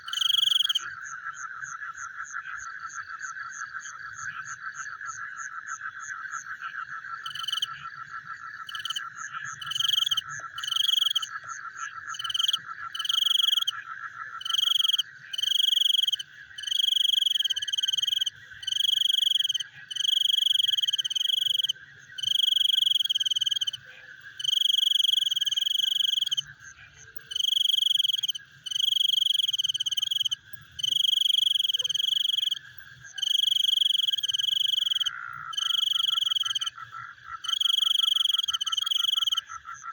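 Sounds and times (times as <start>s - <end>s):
frog pulsing trill: 0.0s - 0.8s, 7.2s - 26.6s, 27.2s - 39.9s.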